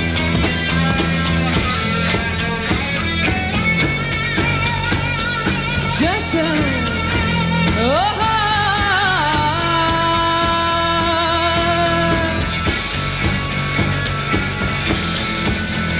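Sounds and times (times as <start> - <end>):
drums steady beat: 0.0 - 15.9
live rock band playing: 0.0 - 15.9
wavering held guitar notes: 0.0 - 15.9.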